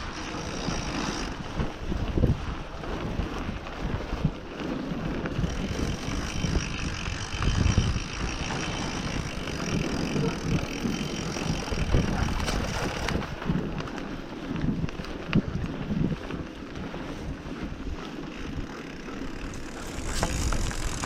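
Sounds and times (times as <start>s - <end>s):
bike rattling over bumps: 0.0s - 21.0s
bike tyres rumbling on trail: 0.0s - 21.0s
wind on microphone: 0.0s - 21.0s.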